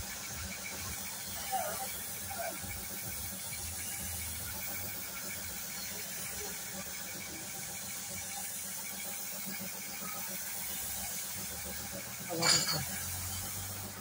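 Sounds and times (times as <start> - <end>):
spray gun hissing: 0.1 - 14.0.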